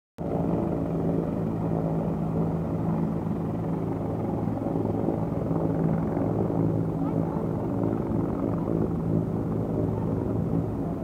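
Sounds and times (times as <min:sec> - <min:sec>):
helicopter engine and rotor drone: 0:00.2 - 0:11.0.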